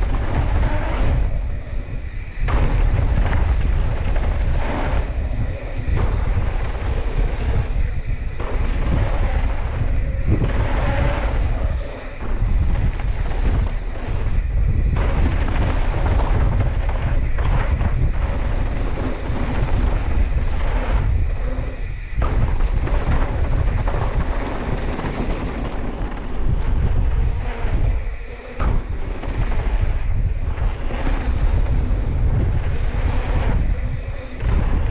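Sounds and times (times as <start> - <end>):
bike tyres rumbling on dirt: 0.0 - 34.9
wind on microphone: 0.0 - 34.9.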